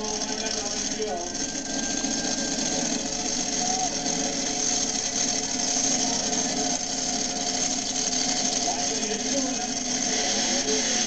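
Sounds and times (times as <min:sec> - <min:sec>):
truck engine idling with clatter: 0:00.0 - 0:11.0.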